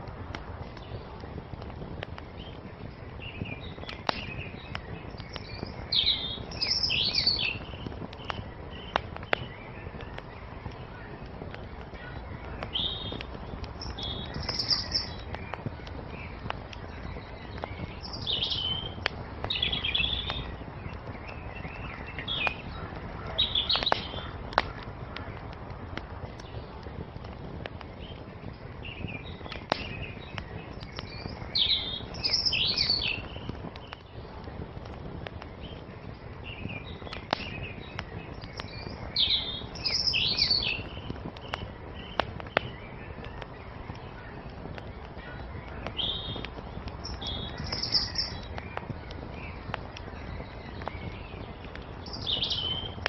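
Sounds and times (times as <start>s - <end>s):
songbirds chirping: 0.0s - 53.0s
wood fire crackling: 0.0s - 53.0s.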